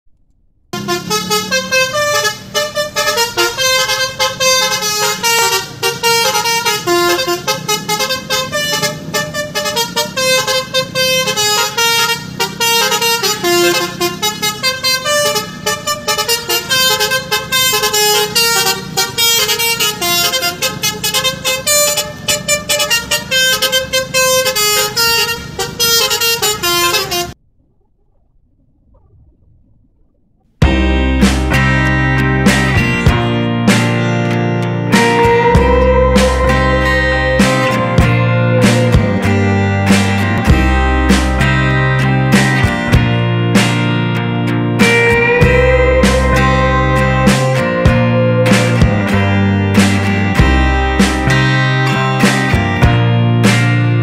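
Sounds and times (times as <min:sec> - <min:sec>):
multi-tone bus horn melody: 0:00.7 - 0:27.4, 0:30.6 - 0:54.0.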